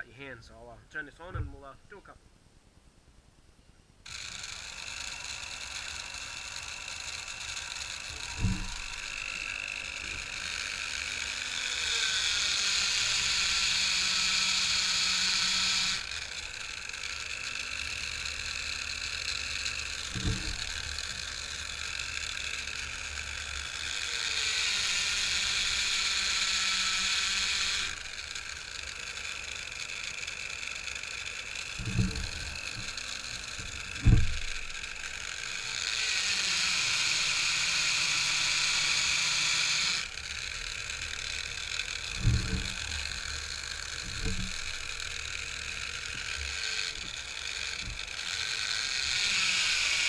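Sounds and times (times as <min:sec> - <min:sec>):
cutter hissing on brass case: 0:04.1 - 0:50.0
electric drill running: 0:04.1 - 0:50.0.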